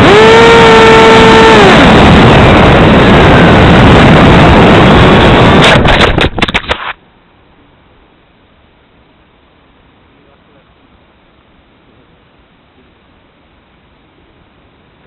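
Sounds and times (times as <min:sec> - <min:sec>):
rush of wind: 0:00.0 - 0:13.3
electric ducted fan whine: 0:00.0 - 0:15.0.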